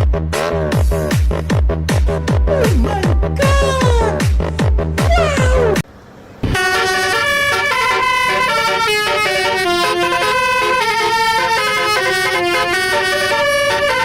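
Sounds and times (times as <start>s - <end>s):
bus horn playing a tune: 2.1s - 5.8s, 6.4s - 14.0s.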